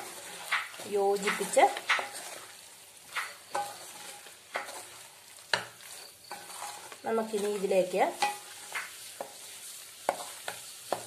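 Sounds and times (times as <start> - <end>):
light frying sizzle: 0.0 - 11.0
spatula scraping and knocking a pan: 0.0 - 11.0.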